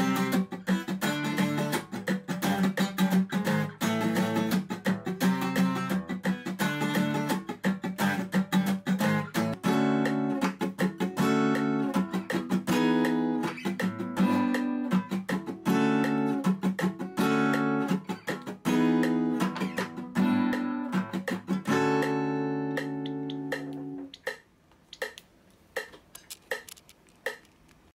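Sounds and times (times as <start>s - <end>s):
acoustic guitar strumming funk rhythm: 0.0s - 27.5s
metronome ticking: 0.0s - 27.5s.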